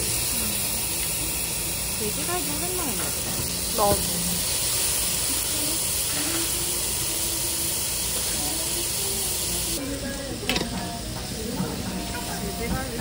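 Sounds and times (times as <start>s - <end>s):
meat sizzling on a grill plate: 0.0s - 13.0s.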